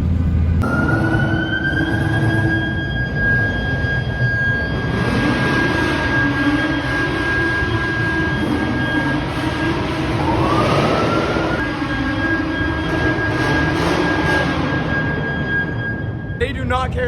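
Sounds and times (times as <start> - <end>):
rising whine: 0.0 - 16.6
vehicle rumble: 0.0 - 17.0.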